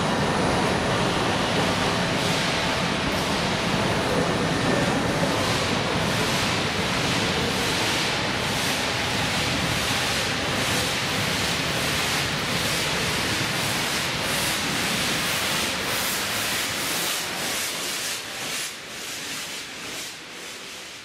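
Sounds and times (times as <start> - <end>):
loud hiss of steam: 0.0 - 21.0
steam locomotive rhythmic pulsing: 0.0 - 21.0.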